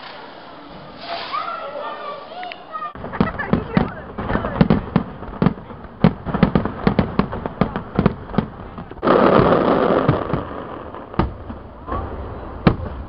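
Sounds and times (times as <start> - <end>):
fireworks exploding: 0.0 - 2.2, 2.9 - 13.0.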